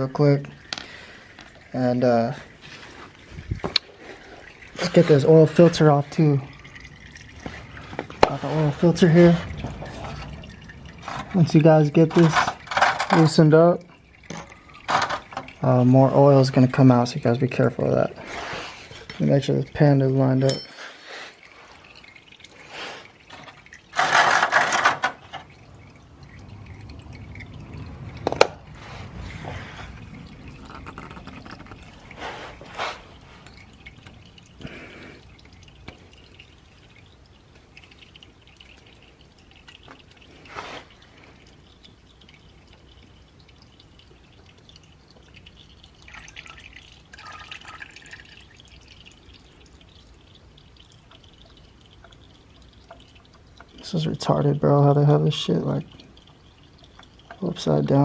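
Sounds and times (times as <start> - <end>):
oil dripping into pan: 0.0 - 58.0.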